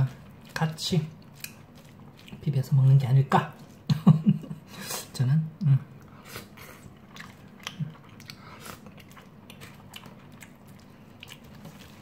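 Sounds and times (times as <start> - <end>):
chewing: 0.0 - 3.9, 6.0 - 12.0.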